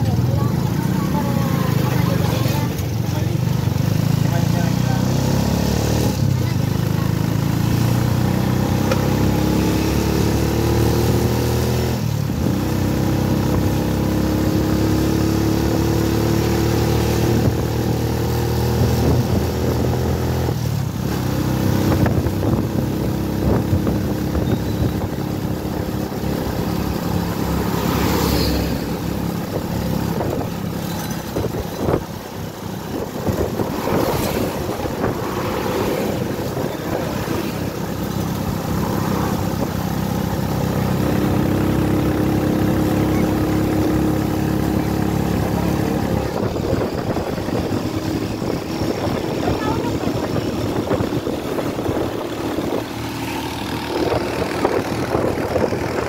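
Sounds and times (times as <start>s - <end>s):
passing traffic: 0.0s - 56.0s
vehicle engine and road noise: 0.0s - 56.0s.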